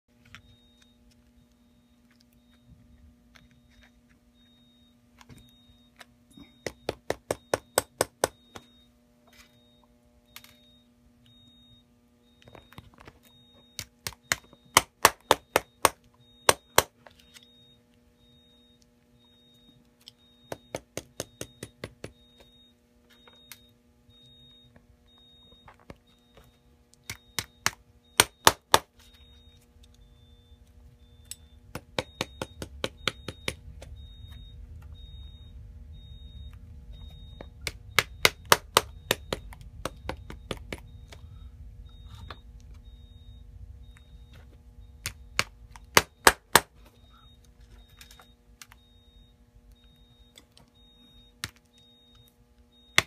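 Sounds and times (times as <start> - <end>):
faint steady hum: 0.1 - 53.0.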